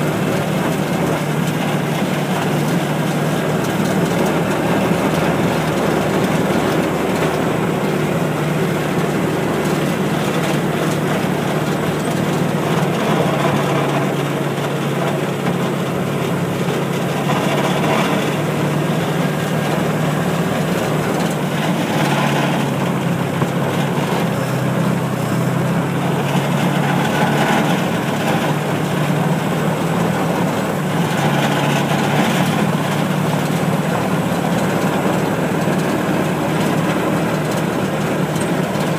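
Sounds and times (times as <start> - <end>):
small vehicle engine droning: 0.0 - 38.9.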